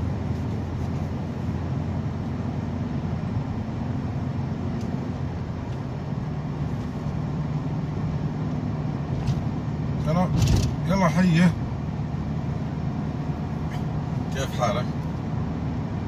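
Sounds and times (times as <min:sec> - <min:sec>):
car engine hum: 0:00.0 - 0:16.0
tyre and road noise: 0:00.0 - 0:16.0.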